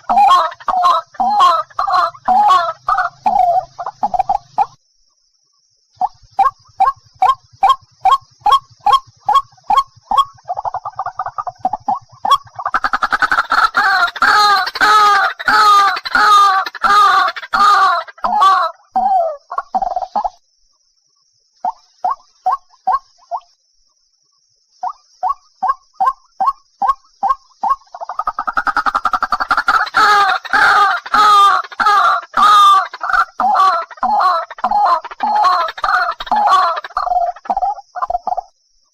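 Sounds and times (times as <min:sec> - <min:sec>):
waterhen calling: 0:00.0 - 0:04.8, 0:06.0 - 0:20.4, 0:21.6 - 0:23.5, 0:24.8 - 0:38.4.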